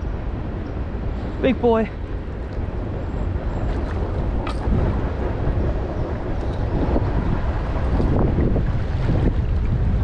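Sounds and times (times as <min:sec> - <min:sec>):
stream water flowing: 0:00.0 - 0:10.0
wind buffeting microphone: 0:00.0 - 0:10.0.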